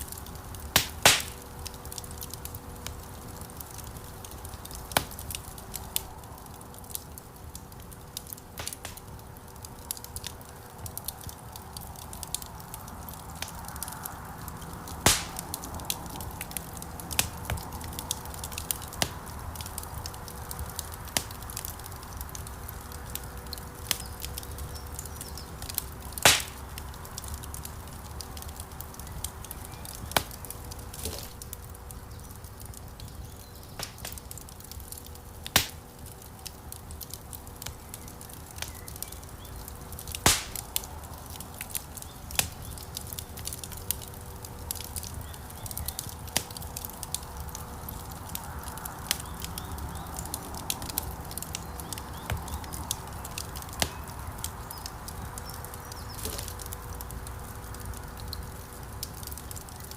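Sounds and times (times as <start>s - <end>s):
logs popping: 0.0s - 59.9s
wood fire crackling: 0.0s - 59.9s.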